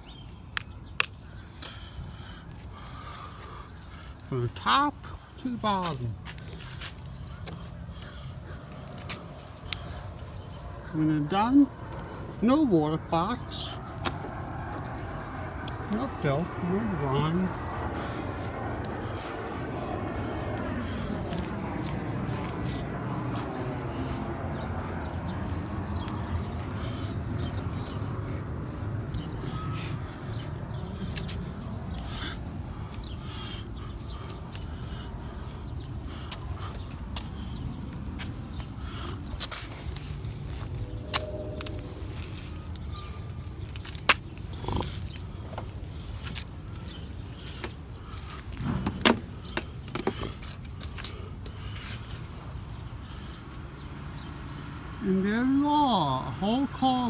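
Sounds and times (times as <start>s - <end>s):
steady low rumble: 6.1s - 53.7s.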